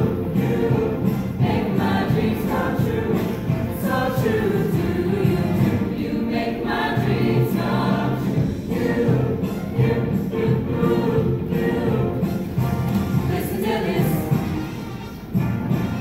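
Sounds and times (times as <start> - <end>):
choir singing: 0.0 - 15.4.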